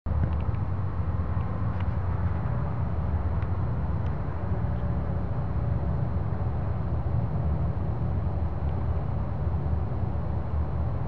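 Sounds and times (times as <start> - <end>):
low droning rumble: 0.1 - 11.0.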